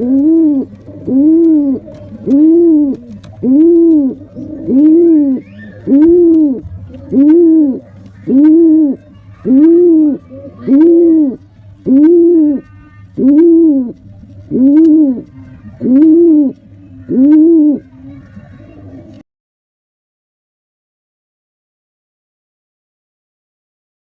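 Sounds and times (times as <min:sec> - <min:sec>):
pigeon cooing: 0:00.0 - 0:19.2.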